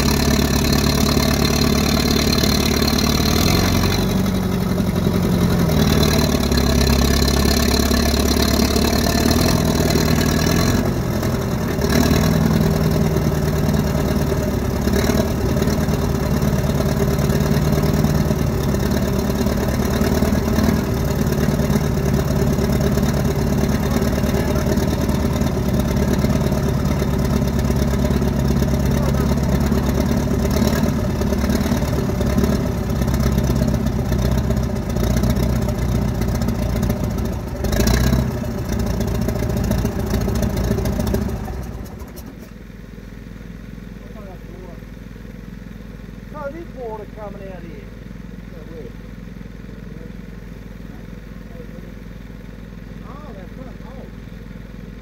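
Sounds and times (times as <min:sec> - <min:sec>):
bulldozer engine running: 0:00.0 - 0:55.0.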